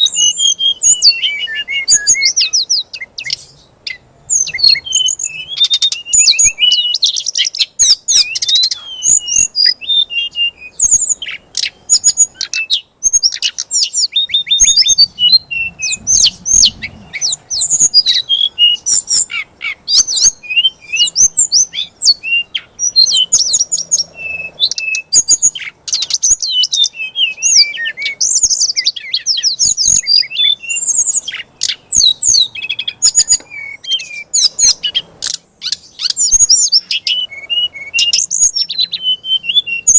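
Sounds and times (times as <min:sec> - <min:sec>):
songbird singing chirps: 0:00.0 - 0:39.9.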